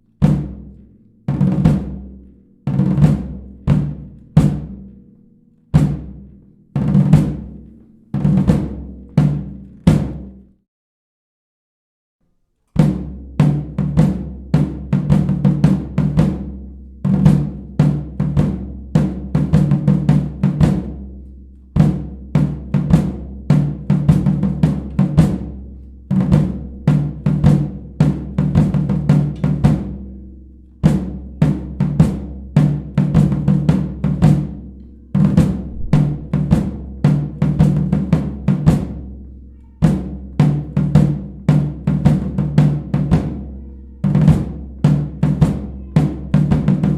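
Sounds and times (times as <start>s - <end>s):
marching snare and bass drums: 0.2s - 5.0s, 5.7s - 10.4s, 12.8s - 46.9s.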